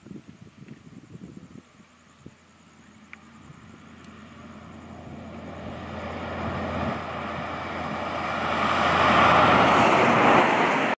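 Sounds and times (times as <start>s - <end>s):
truck passing at highway speed: 2.0s - 11.0s.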